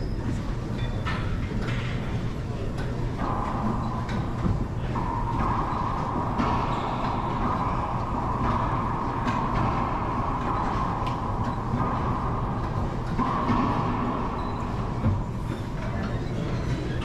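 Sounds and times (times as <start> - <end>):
steady rumbling noise: 0.0 - 17.0.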